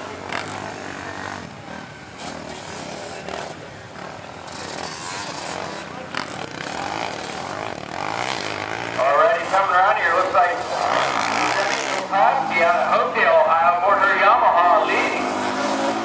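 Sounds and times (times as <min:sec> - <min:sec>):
racing quad engines revving: 0:00.0 - 0:16.0.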